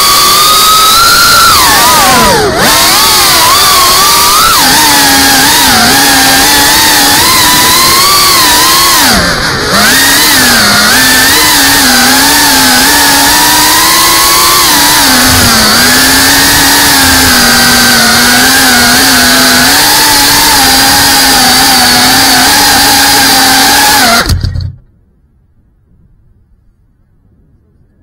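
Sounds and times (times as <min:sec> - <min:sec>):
drone motors and propellers whining: 0:00.0 - 0:25.0.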